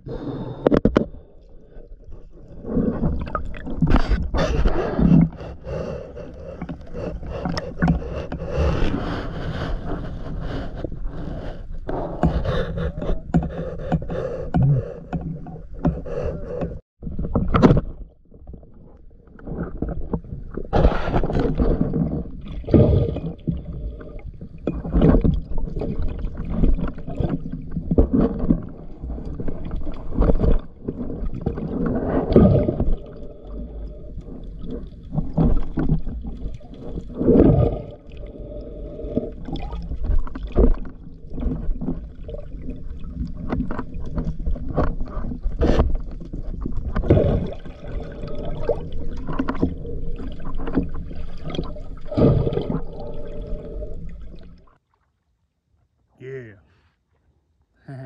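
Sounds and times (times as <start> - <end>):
muffled underwater water sloshing: 0.0 - 55.8.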